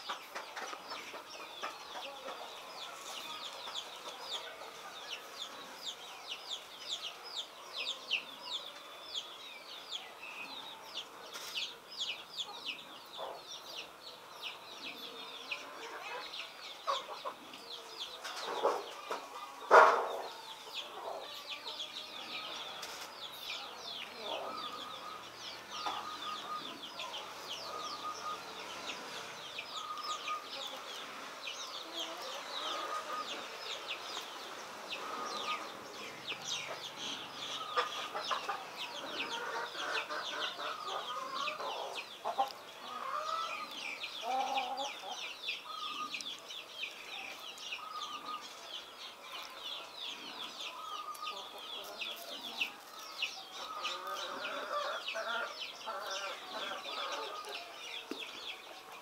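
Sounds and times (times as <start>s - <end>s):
chicks peeping: 0.0s - 59.0s
chicken calls: 10.1s - 59.0s.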